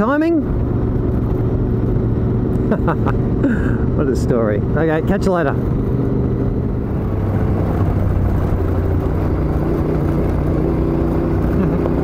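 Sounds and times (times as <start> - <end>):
motorcycle engine cruising: 0.0 - 12.0
road noise: 0.0 - 12.0
wind: 0.0 - 12.0.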